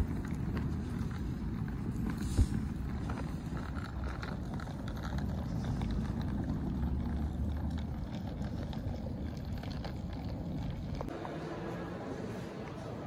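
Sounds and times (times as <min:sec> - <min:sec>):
suitcase wheels rolling on paving: 0:00.0 - 0:11.3.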